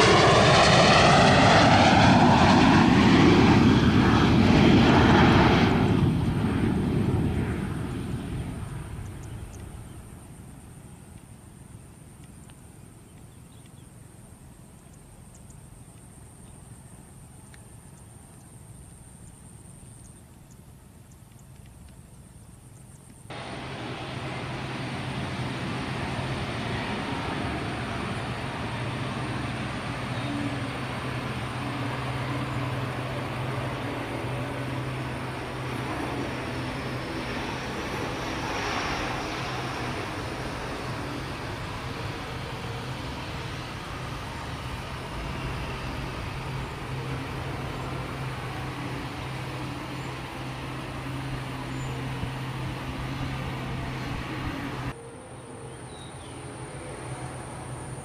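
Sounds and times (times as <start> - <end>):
faint high whine: 0.0 - 58.0
jet roar over deep hum: 0.0 - 58.0.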